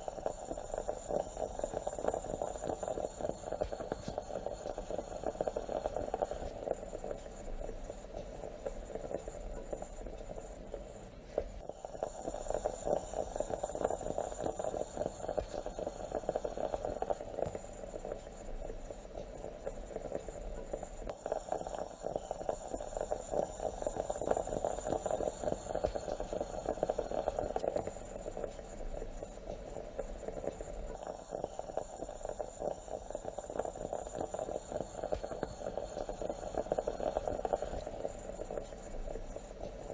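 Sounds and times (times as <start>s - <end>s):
moka pot gurgling and sputtering: 0.0s - 39.9s.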